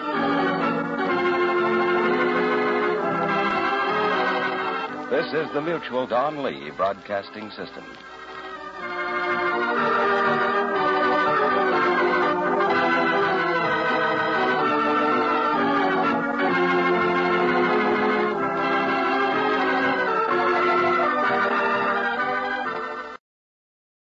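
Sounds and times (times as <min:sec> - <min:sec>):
organ chords: 0:00.0 - 0:23.2.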